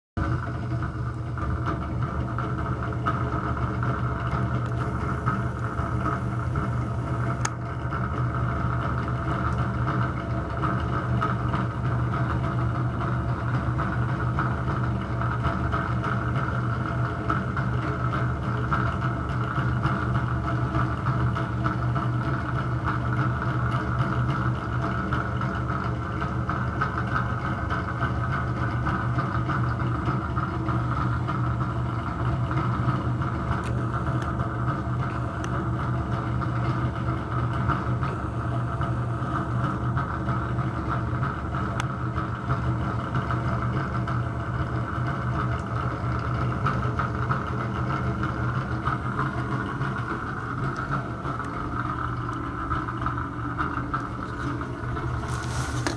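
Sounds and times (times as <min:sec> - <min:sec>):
exhaust fan droning: 0:00.2 - 0:55.9.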